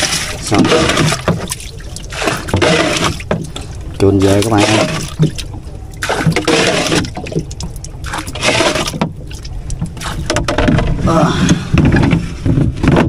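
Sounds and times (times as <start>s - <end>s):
water sloshing in boat hull: 0.0s - 13.0s.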